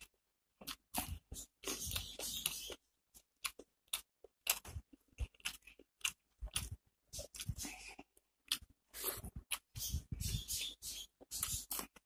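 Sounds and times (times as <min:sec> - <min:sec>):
crunchy chewing: 0:00.0 - 0:12.0.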